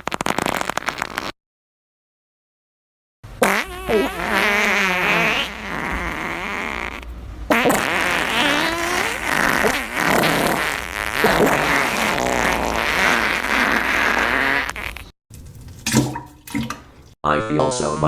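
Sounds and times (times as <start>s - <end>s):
fart sound effects: 0.0s - 1.3s, 3.4s - 17.0s.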